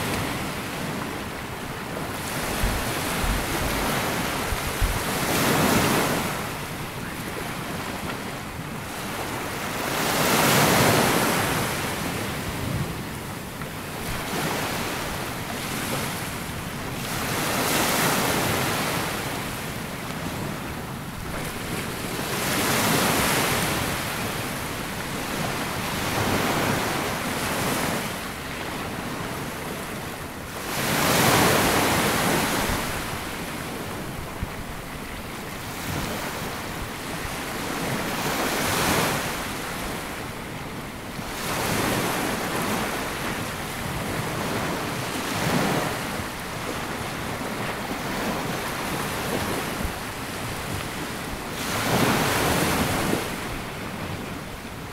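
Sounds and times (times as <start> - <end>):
small waves breaking on beach: 0.0 - 54.9
wind on microphone: 0.0 - 54.9.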